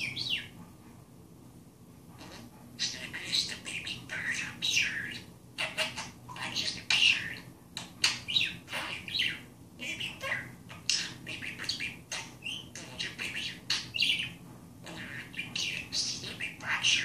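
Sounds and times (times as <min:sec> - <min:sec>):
budgerigar chirping and squawking: 0:02.2 - 0:17.0.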